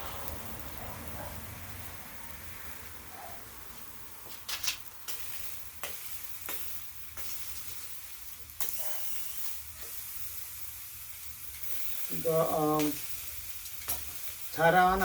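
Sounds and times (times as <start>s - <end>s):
meat sizzling over charcoal: 0.0s - 15.0s.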